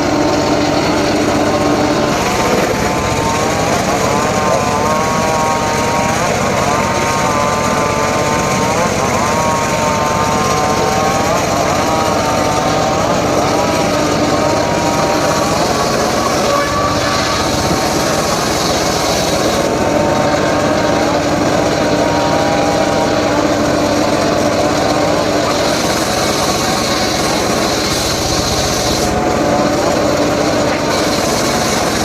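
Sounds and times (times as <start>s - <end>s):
engine saw cutting wood: 0.0s - 32.0s.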